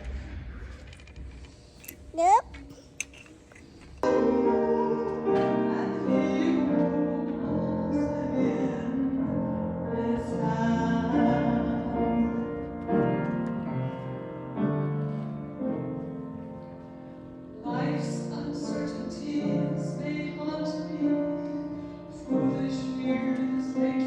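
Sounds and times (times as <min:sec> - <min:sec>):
piano playing hymn chords: 0:04.0 - 0:24.0.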